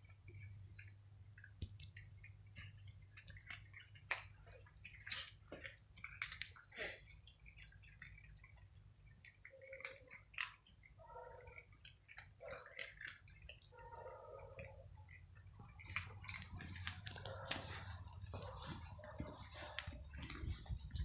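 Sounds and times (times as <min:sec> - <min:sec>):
cats crunching dry kibble: 0:00.0 - 0:21.0.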